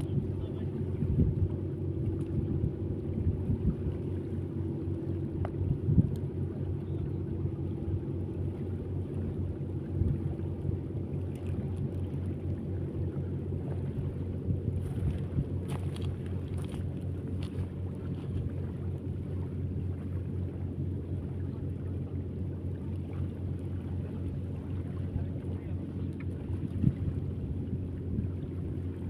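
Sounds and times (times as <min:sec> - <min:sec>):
wind buffeting microphone: 0:00.0 - 0:20.0, 0:24.1 - 0:29.0
engine running steadily: 0:00.0 - 0:29.0.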